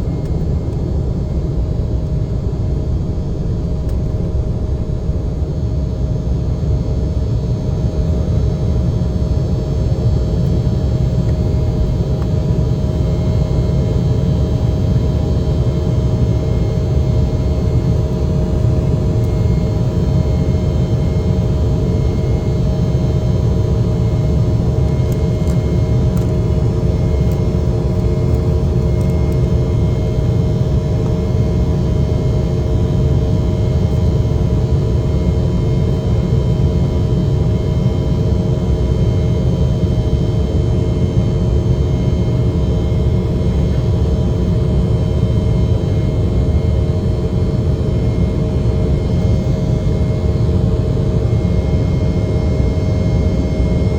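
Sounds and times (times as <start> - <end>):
jet airliner cabin rumble: 0.0 - 53.9
jet engines droning: 0.0 - 53.9.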